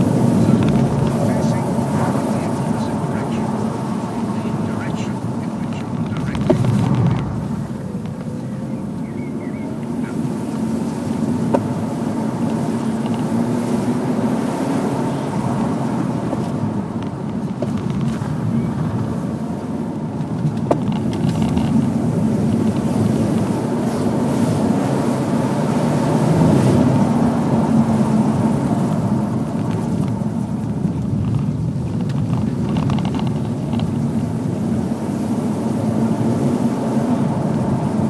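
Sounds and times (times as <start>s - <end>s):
car engine revving: 0.0s - 38.0s
road and tyre noise: 0.0s - 38.0s.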